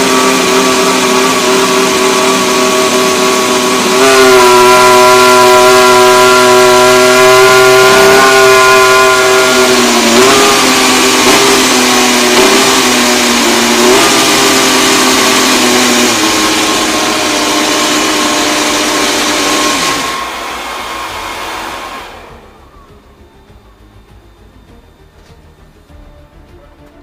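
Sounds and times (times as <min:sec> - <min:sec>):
racing car engine revving: 0:00.0 - 0:27.0.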